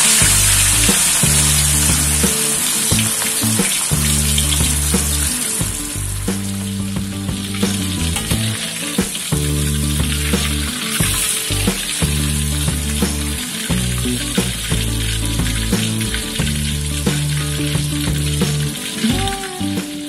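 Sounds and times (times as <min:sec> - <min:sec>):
fish sizzling in hot oil: 0:00.0 - 0:19.1
background music: 0:00.0 - 0:20.0.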